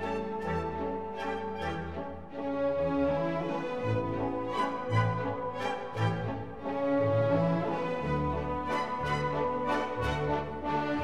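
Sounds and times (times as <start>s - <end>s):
orchestral background music: 0.0s - 11.0s.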